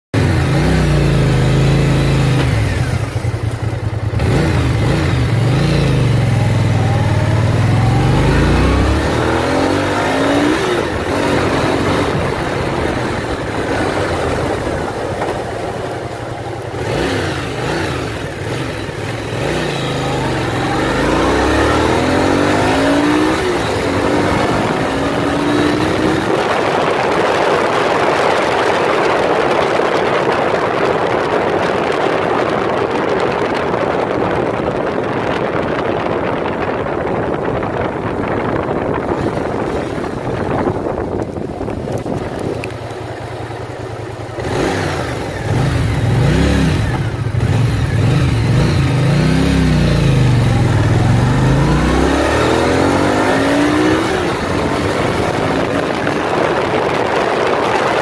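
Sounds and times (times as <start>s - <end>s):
dirt bike engine accelerating: 0.2s - 58.0s
steady rushing noise: 0.2s - 58.0s.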